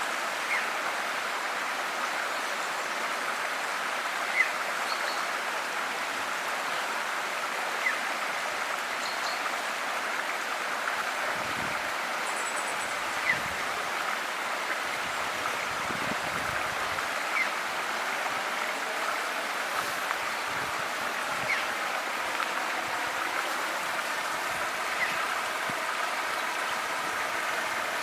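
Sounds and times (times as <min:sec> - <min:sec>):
stream rushing: 0:00.0 - 0:28.0.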